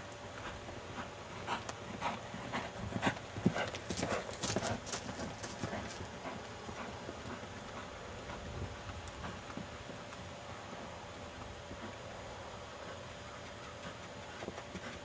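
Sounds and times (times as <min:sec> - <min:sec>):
horse hoofbeats on dry ground: 0:00.4 - 0:12.1, 0:12.8 - 0:15.0.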